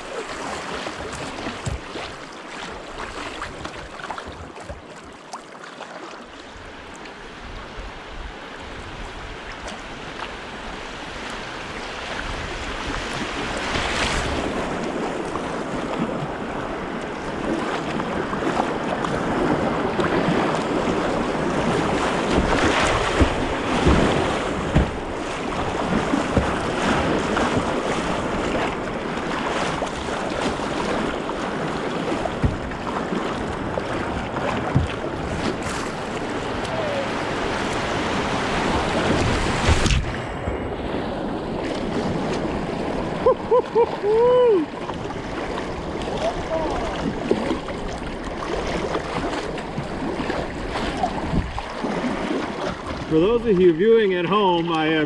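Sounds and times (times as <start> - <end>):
water splashes: 0.0 - 55.0
wind on microphone: 7.4 - 53.2.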